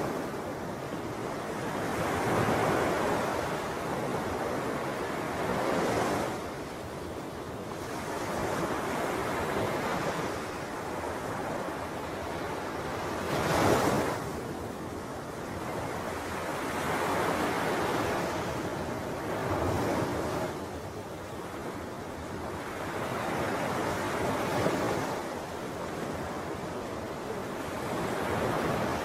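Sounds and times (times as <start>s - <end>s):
wind blowing across microphone: 0.0s - 29.0s.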